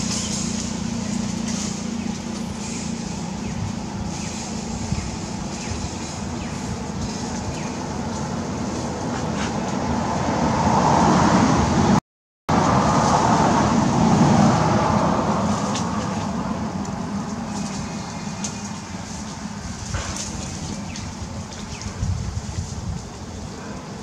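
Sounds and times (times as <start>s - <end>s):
road vehicle passing: 0.0s - 24.0s.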